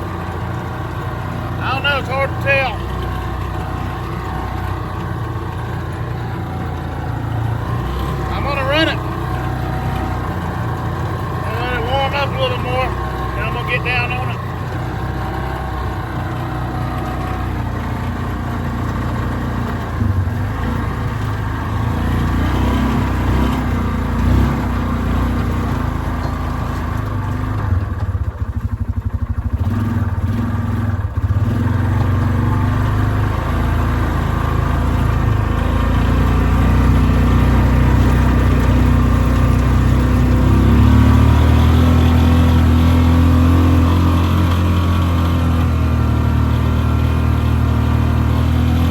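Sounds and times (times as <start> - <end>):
engine running and revving: 0.0 - 48.9.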